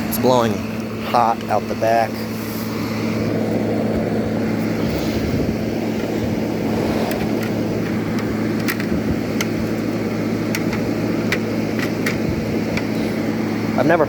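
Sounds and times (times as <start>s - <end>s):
air conditioner humming: 0.0s - 14.0s
fan air rushing: 0.0s - 14.0s.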